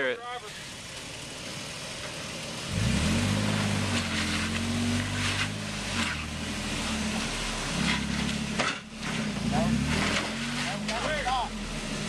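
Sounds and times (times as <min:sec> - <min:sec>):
truck engine revving under load: 0:01.3 - 0:12.0.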